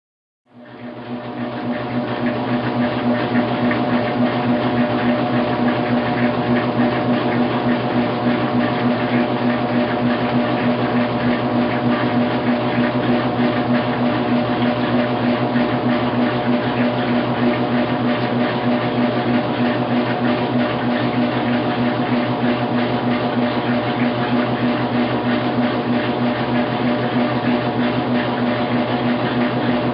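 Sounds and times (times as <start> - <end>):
washing machine running: 0.5 - 29.9.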